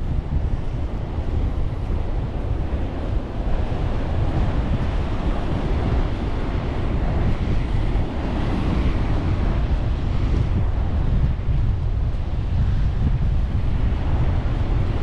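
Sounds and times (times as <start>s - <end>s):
ocean surf washing on beach: 0.0s - 15.0s
wind buffeting the microphone: 0.0s - 15.0s.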